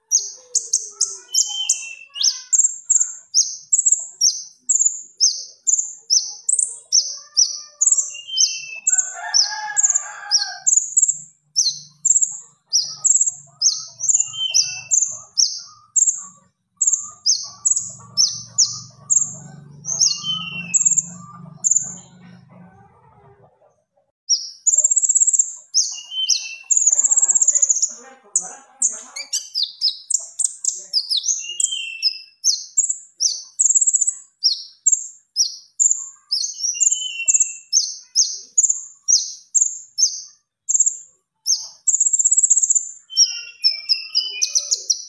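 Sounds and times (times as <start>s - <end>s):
songbird singing high notes: 0.0s - 16.2s, 16.8s - 22.1s, 24.3s - 38.5s, 41.5s - 45.0s.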